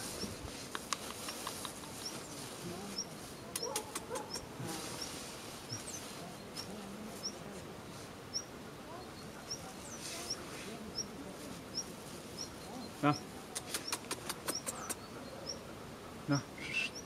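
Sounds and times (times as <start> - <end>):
bird chirping: 1.0 - 7.5, 8.3 - 15.7, 16.3 - 17.0.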